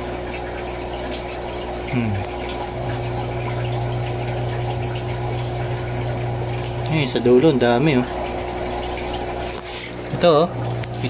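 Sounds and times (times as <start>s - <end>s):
air pump humming: 0.0s - 11.0s
water bubbling: 0.0s - 11.0s.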